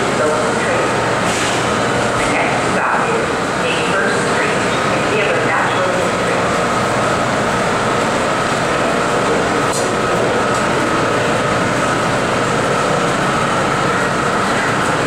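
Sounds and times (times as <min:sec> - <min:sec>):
constant high whine: 0:00.0 - 0:15.0
subway train equipment hum and hiss: 0:00.0 - 0:15.0.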